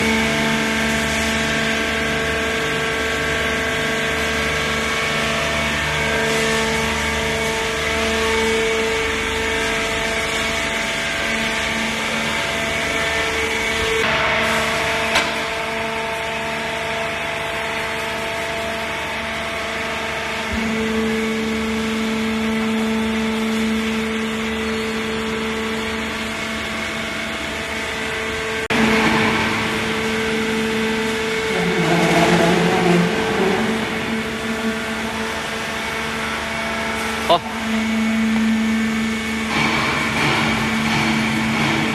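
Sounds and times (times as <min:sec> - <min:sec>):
hydraulic pump whining and humming: 0:00.0 - 0:41.9.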